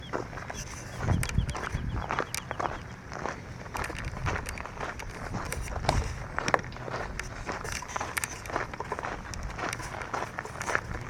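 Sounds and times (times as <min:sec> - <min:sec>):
footsteps crunching on a path: 0:00.0 - 0:11.0.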